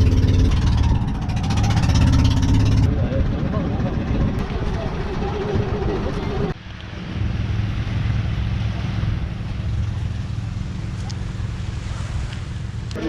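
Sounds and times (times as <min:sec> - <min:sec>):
motorboat engine humming: 0:00.0 - 0:13.0
water noise: 0:00.0 - 0:13.0
wind: 0:00.0 - 0:13.0.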